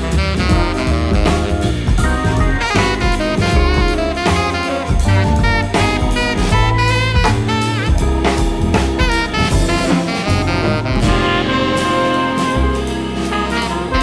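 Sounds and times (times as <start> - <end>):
instrumental jazz music: 0.0 - 14.0.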